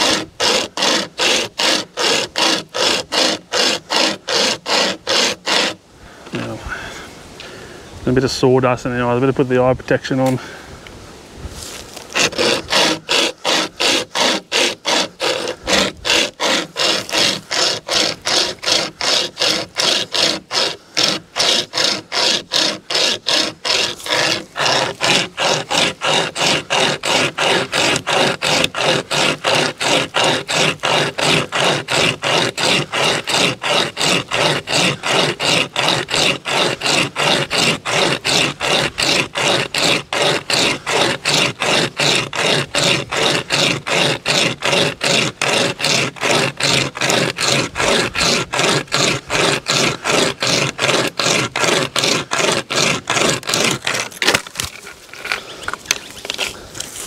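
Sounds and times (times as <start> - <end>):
chainsaw chain rasping through branch: 0.0 - 6.5, 11.6 - 57.0.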